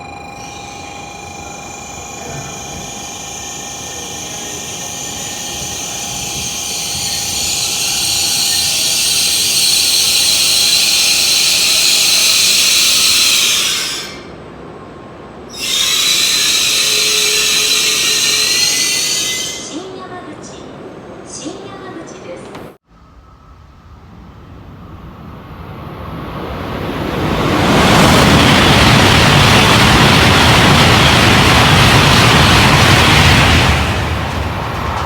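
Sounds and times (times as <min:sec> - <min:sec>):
train rushing past: 0:00.0 - 0:35.0.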